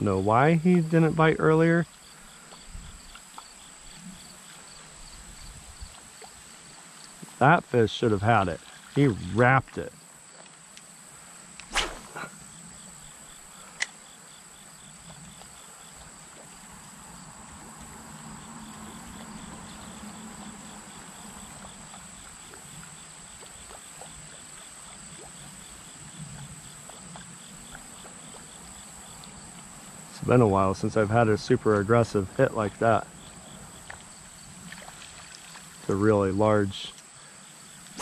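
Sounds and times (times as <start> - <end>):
insects buzzing: 0.0 - 38.0.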